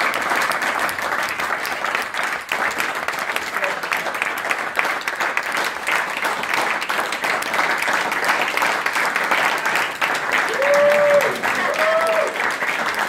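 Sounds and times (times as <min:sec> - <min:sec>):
people applauding: 0:00.0 - 0:13.0.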